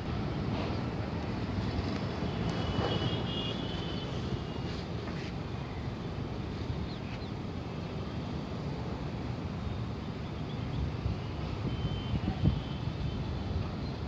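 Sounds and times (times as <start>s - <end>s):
distant city traffic: 0.0s - 14.0s
wind: 0.0s - 14.0s.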